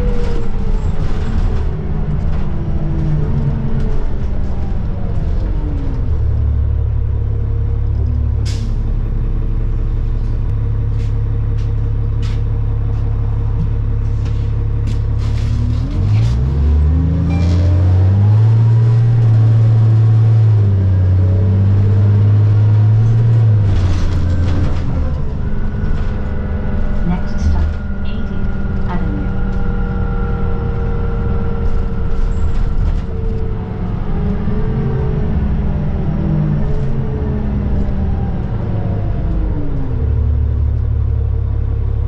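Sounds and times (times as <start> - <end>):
diesel bus engine: 0.0 - 42.0.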